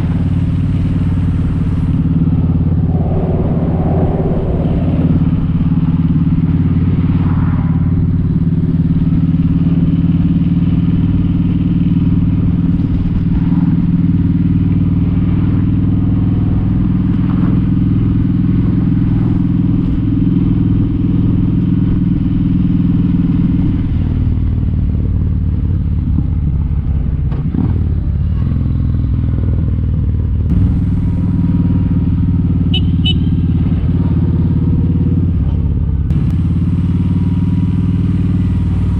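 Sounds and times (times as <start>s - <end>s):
motorcycle engine running: 4.6s - 38.9s.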